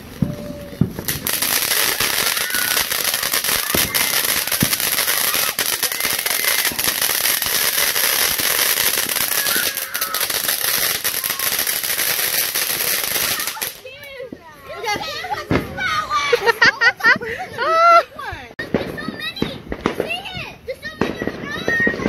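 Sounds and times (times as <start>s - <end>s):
firework fountain hissing and crackling: 0.0s - 22.0s.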